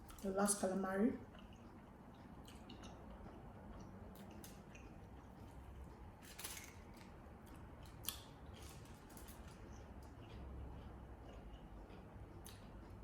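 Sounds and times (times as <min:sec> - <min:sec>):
crispy food crunching: 0:01.2 - 0:13.0.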